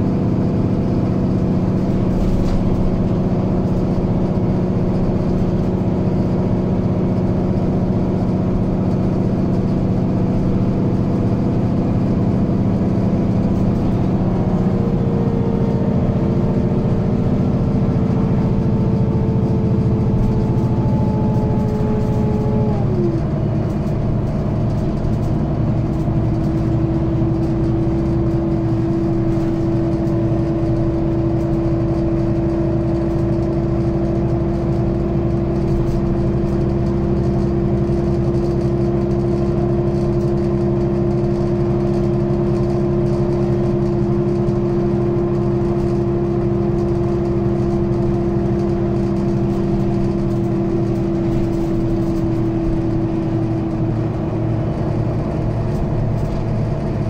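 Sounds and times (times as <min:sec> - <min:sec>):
bus diesel engine drone: 0:00.0 - 0:57.0
gearbox whine: 0:02.0 - 0:57.0.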